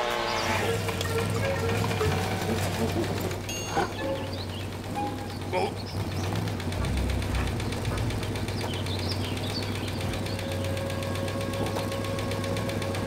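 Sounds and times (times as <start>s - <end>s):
lawnmower engine chugging: 0.0s - 13.0s.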